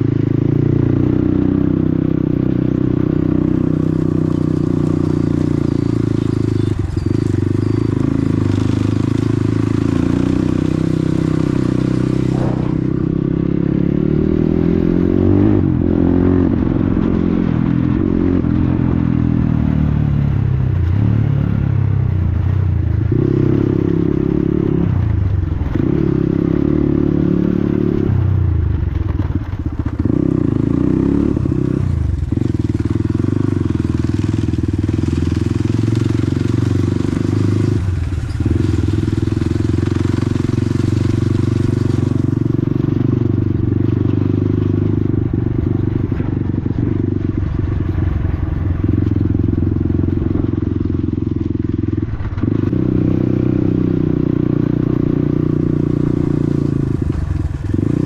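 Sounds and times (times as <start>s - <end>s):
dirt bike engine revving: 0.0s - 19.9s, 30.0s - 58.0s.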